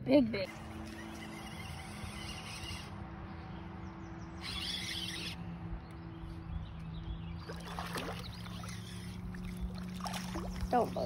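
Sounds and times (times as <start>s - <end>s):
boat motor humming: 0.0s - 11.0s
wind and water noise: 0.0s - 11.0s.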